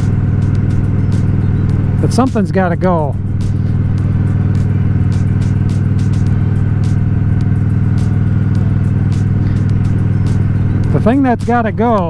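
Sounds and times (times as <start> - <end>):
motorcycle engine running steadily: 0.0 - 12.0.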